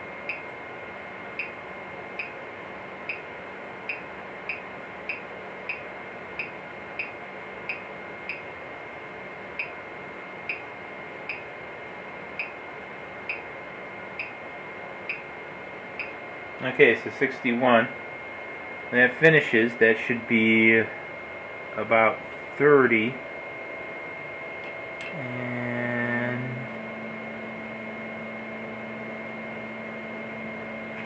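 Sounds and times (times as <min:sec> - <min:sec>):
faint steady whine: 0:00.0 - 0:31.0.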